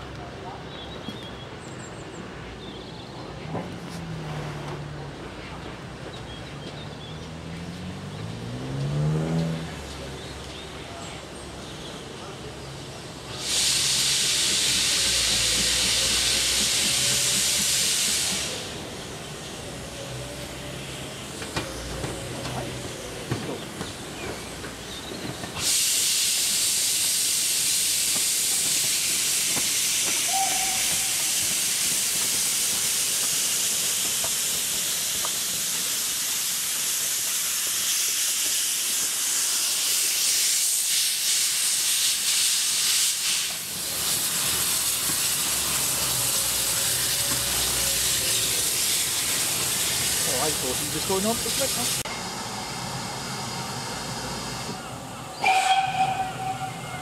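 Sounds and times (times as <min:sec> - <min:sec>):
locomotive steam hissing: 0:00.4 - 0:57.0.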